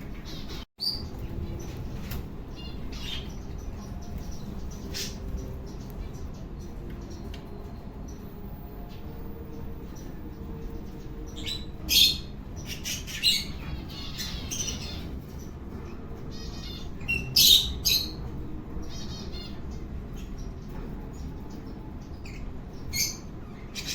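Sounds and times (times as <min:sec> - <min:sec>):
birds chirping and trilling: 0:00.0 - 0:23.9.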